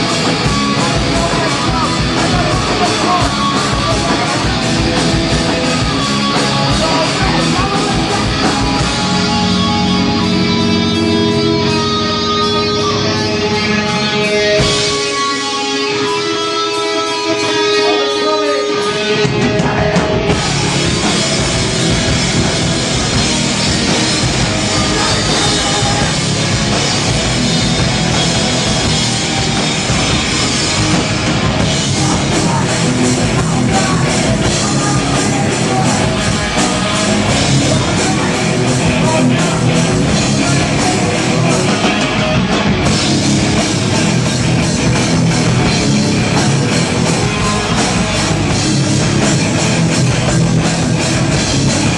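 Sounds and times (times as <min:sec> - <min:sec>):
distorted guitars: 0:00.0 - 0:51.9
drums: 0:00.0 - 0:51.9.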